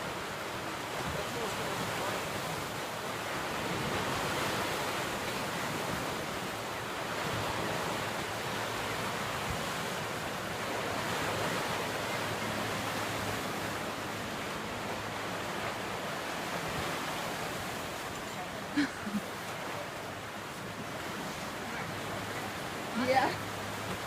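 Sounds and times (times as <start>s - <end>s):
waves washing on shore: 0.0s - 24.0s
wind: 0.0s - 24.0s.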